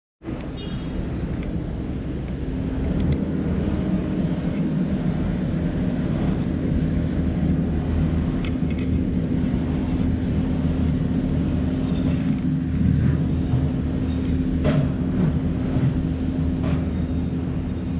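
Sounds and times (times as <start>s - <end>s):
low machine drone: 0.2s - 17.9s.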